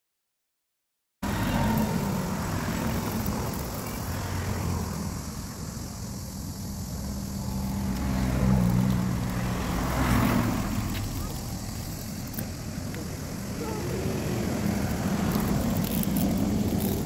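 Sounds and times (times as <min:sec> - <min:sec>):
vehicle engine passing: 0:01.2 - 0:17.0.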